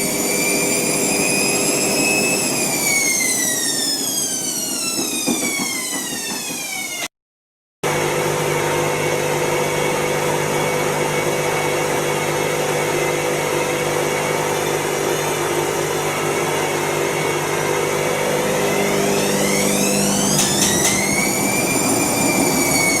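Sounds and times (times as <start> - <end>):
washing machine humming: 0.0 - 7.0, 7.9 - 23.0
motor whine rising in pitch: 0.0 - 7.1, 7.9 - 23.0.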